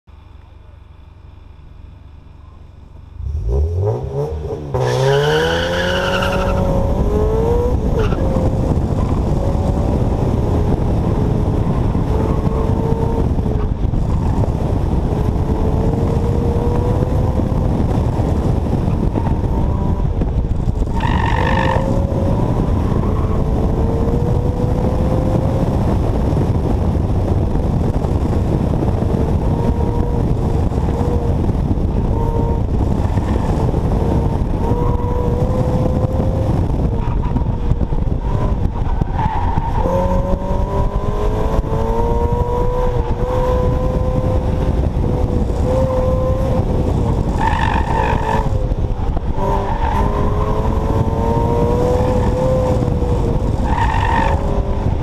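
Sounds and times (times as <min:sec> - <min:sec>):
car engine revving: 0:01.3 - 0:55.0
wind rush over microphone: 0:03.2 - 0:55.0.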